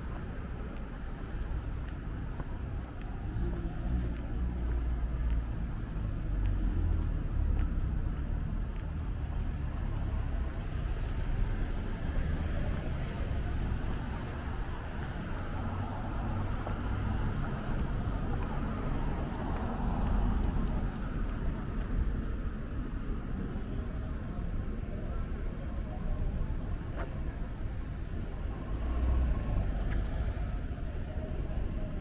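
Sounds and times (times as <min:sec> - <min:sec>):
cars driving past: 0:00.0 - 0:23.7, 0:26.8 - 0:32.0.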